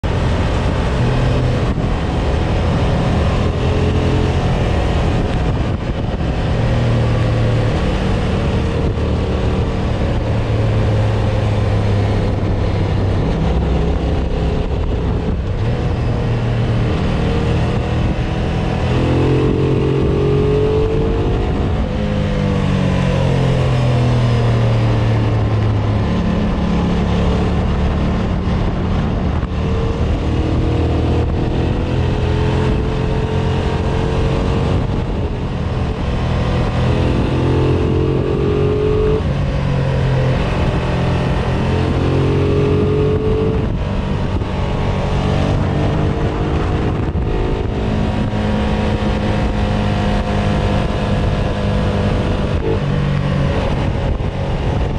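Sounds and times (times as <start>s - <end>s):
motorcycle engine revving: 0.0s - 54.9s
wind noise: 0.0s - 54.9s.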